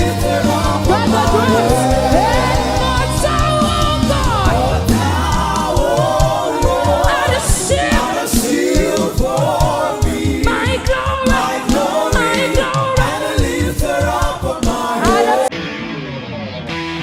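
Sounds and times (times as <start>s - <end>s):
group singing gospel: 0.0s - 15.5s
low thumping beat: 0.0s - 15.5s.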